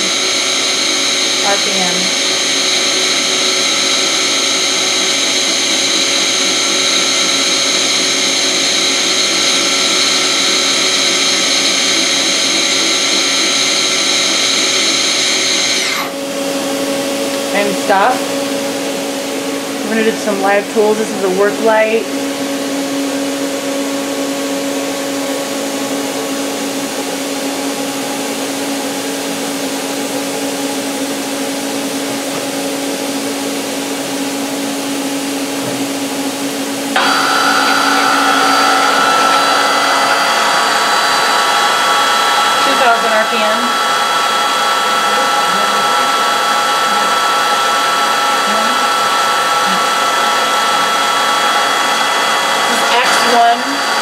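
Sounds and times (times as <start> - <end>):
high whine of spinning spindle: 0.0 - 54.0
lathe running with steady hum: 0.0 - 54.0.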